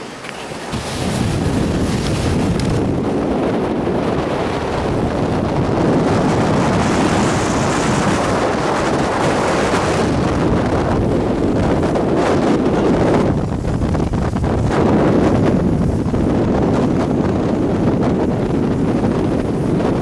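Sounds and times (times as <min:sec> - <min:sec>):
snow tube sliding over snow: 0:00.0 - 0:20.0
wind over microphone: 0:00.0 - 0:20.0.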